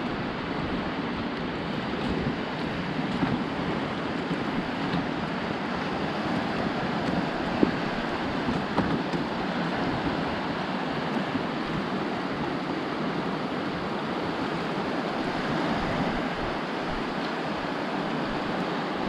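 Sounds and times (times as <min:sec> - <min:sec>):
small waves breaking: 0:00.0 - 0:19.0
wind buffeting microphone: 0:00.0 - 0:19.0.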